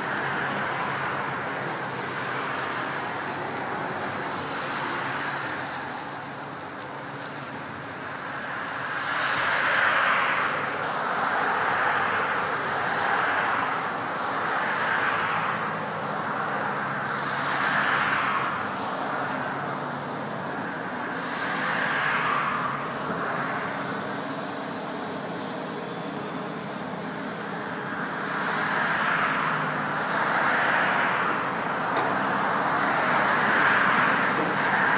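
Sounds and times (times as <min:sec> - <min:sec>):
road traffic rushing: 0:00.0 - 0:34.9.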